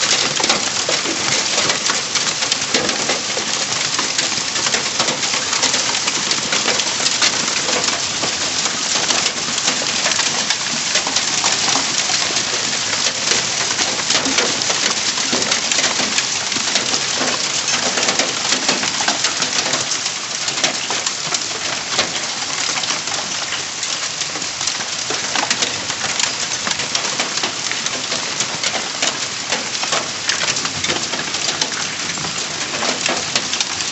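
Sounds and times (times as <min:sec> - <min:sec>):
hail striking hard surfaces: 0:00.0 - 0:33.9.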